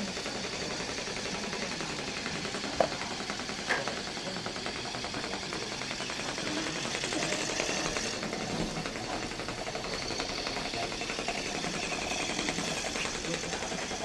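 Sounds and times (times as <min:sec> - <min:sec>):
toy motor rattling: 0:00.0 - 0:14.0.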